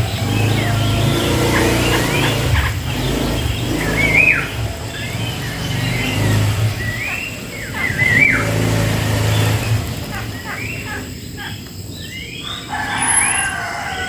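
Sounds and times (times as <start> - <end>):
low motor hum: 0.0 - 12.0
bulbul whistled calls: 0.0 - 14.0.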